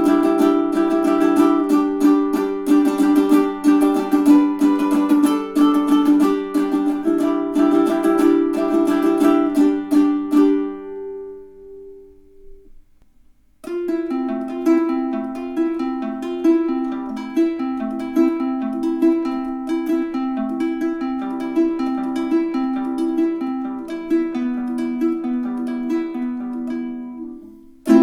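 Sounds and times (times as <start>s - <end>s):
ukulele notes and chords: 0.0s - 13.0s, 13.6s - 28.0s.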